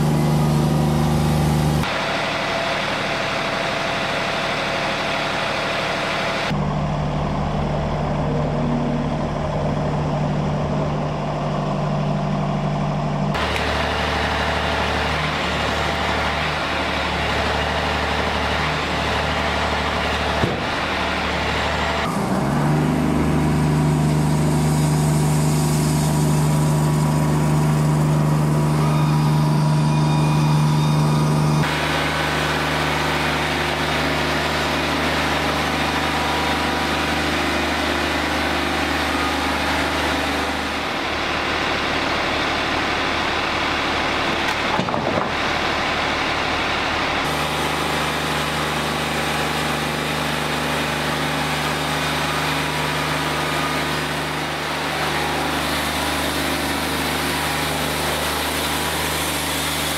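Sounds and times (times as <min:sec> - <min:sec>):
sawmill engine droning: 0:00.0 - 0:59.9.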